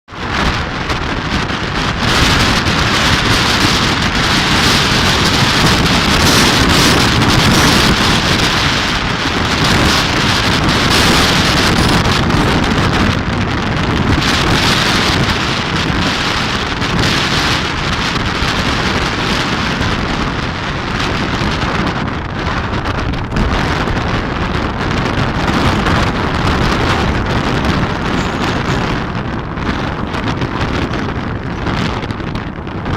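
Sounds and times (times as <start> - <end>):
strong wind on microphone: 0.1 - 32.9.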